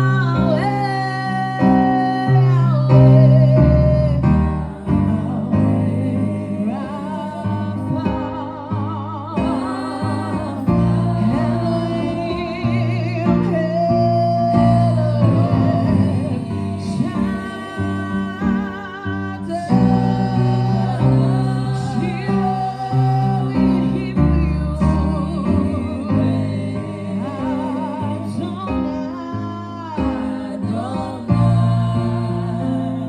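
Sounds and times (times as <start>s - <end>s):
bass guitar low notes: 0.0s - 28.9s
singer with vibrato: 0.0s - 33.0s.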